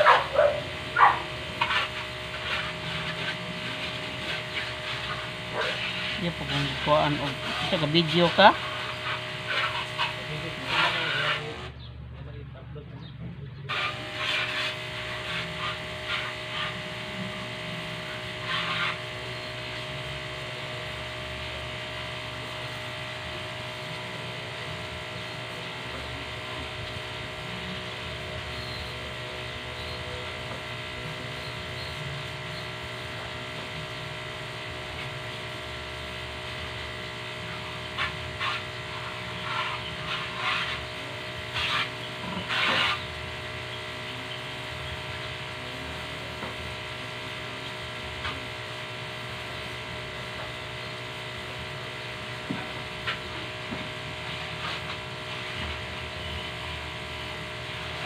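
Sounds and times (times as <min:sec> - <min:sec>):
pressure washer motor humming: 0:00.0 - 0:11.9, 0:13.7 - 0:58.0.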